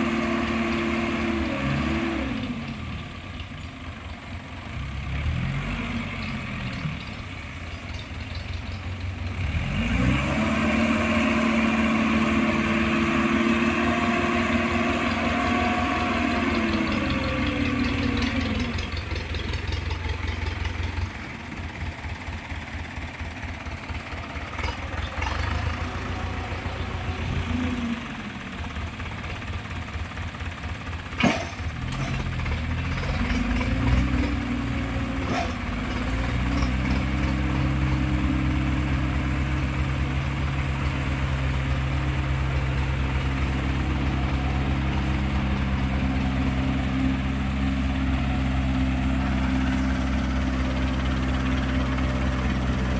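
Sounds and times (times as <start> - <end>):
heavy vehicle engine running: 0.0 - 52.9.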